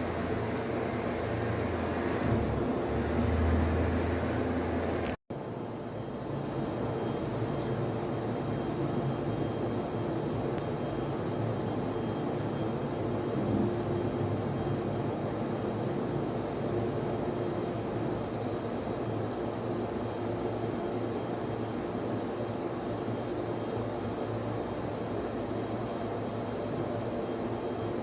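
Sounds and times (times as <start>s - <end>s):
faint high whine: 0.0s - 28.0s
machines humming and whirring: 0.0s - 28.0s.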